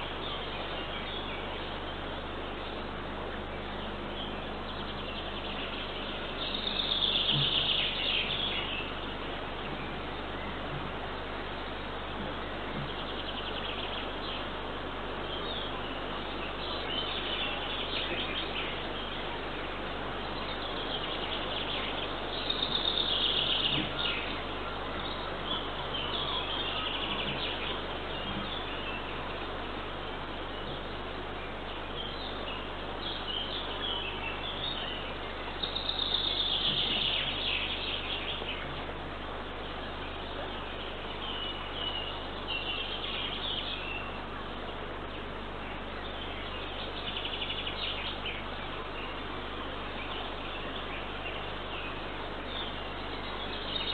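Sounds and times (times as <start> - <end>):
songbirds singing and chirping: 0.0 - 53.9
steady background hiss: 0.0 - 53.9.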